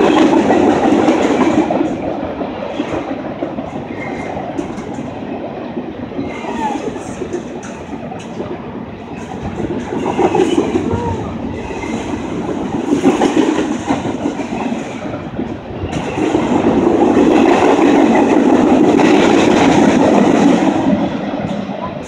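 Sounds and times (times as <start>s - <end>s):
clickety-clack over rail joints: 0.0s - 22.0s
steel wheels rumbling on rails: 0.0s - 22.0s.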